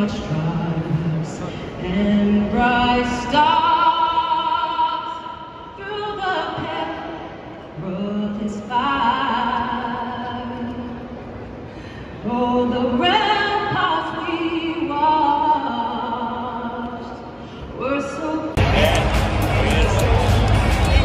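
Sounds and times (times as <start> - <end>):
woman singing over sound system: 0.0 - 11.2, 12.2 - 18.6.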